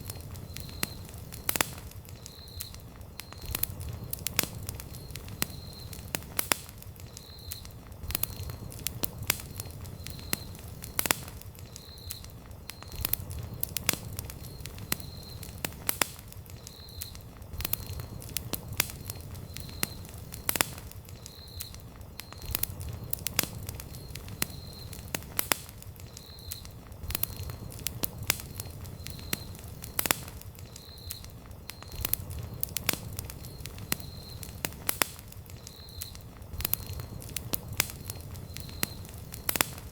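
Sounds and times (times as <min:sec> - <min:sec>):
campfire crackles and pops: 0:00.0 - 0:39.9
low rumble of flame: 0:00.0 - 0:39.9.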